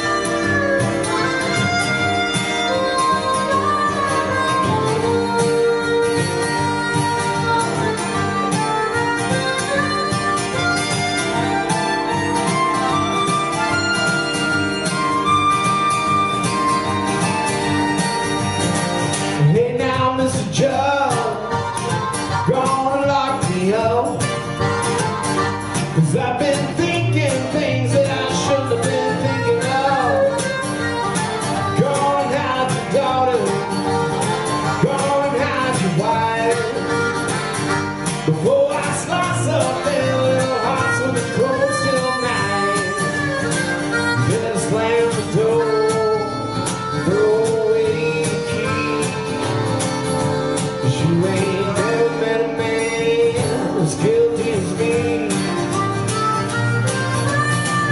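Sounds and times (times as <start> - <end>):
acoustic guitar strumming: 0.0 - 57.9
harmonica wailing lead: 0.0 - 57.9.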